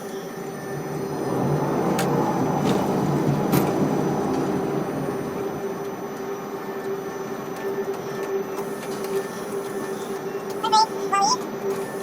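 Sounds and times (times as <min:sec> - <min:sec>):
crane machinery humming: 0:00.0 - 0:12.0.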